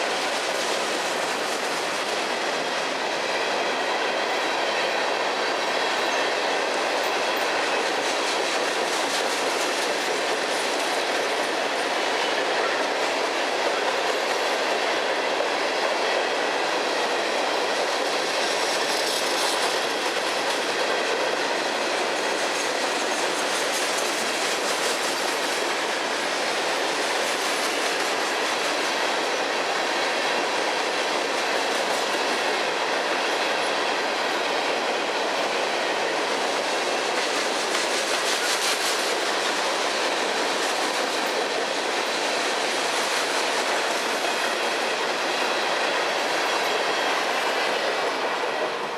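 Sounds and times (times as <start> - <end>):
clickety-clack over rail joints: 0.0 - 48.9
freight train wheels on rails: 0.0 - 48.9.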